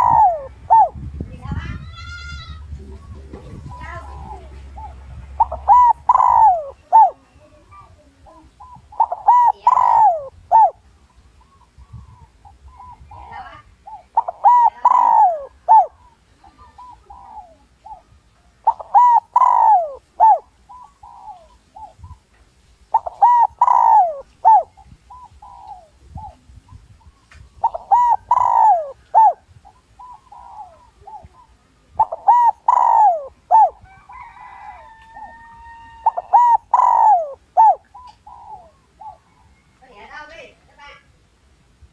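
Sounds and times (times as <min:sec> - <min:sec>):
dove cooing: 0:00.0 - 0:40.7.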